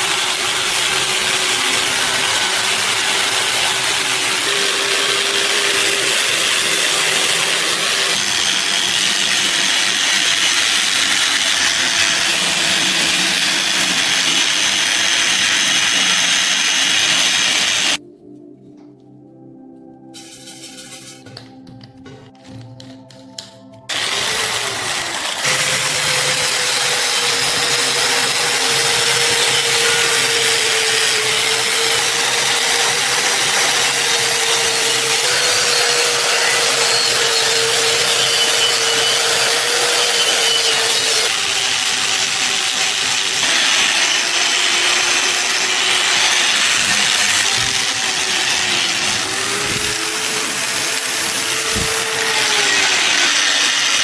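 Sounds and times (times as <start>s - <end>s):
power tool grinding steel: 0.0s - 18.0s, 23.9s - 54.0s.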